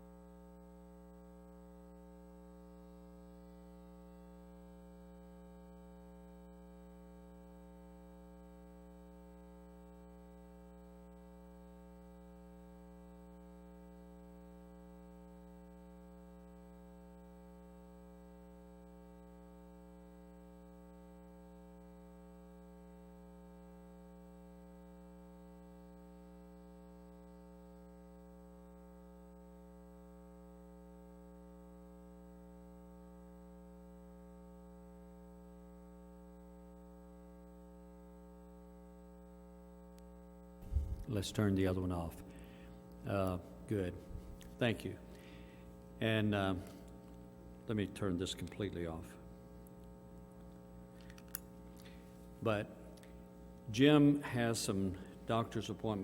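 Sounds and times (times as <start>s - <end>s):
electrical hum and buzz: 0.0s - 56.0s.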